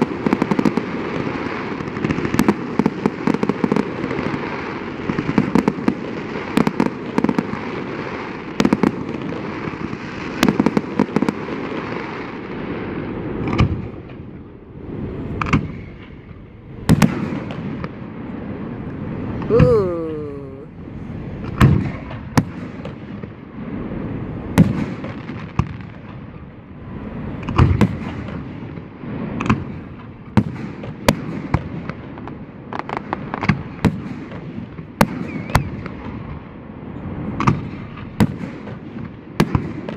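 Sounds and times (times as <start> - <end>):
whistling firework: 0.0 - 19.6, 20.2 - 39.9.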